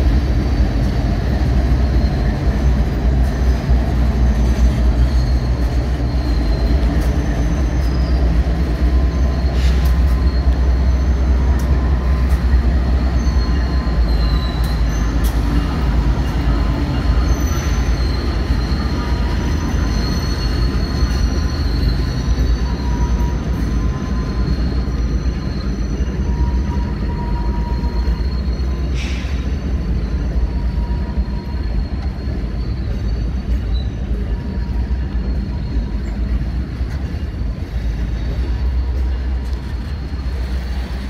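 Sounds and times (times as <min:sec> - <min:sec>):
freight cars rolling by: 0:00.0 - 0:41.0
high wheel squeal: 0:00.0 - 0:41.0
locomotive engine rumble: 0:00.0 - 0:41.0.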